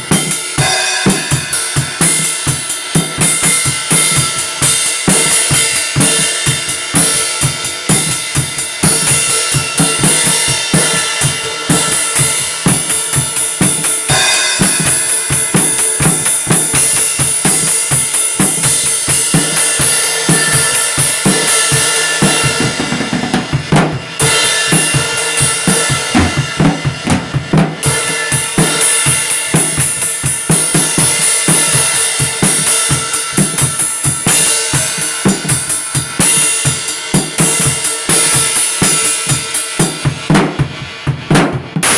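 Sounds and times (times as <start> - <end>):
drum kit fast beat: 0.0 - 41.9.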